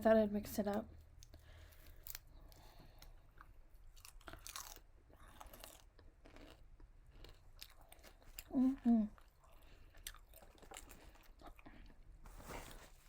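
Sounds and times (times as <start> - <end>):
chewing fried chicken: 1.1 - 12.2.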